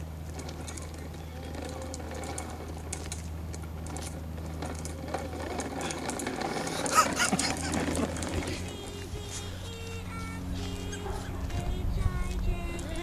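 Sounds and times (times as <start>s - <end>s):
plastic toy wheels rattling on concrete: 0.0s - 13.0s
steady low hum: 0.0s - 13.0s.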